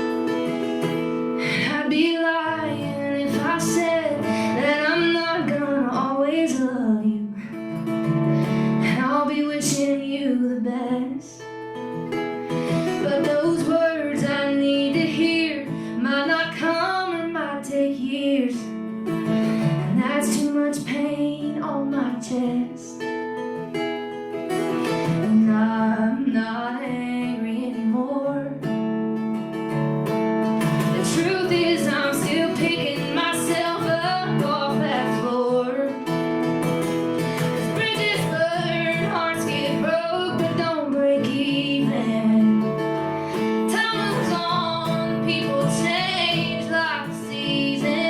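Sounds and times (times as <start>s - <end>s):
strummed acoustic guitar: 0.0s - 48.0s
woman singing: 1.1s - 11.6s, 12.6s - 23.2s, 24.8s - 28.8s, 30.7s - 36.4s, 37.4s - 48.0s.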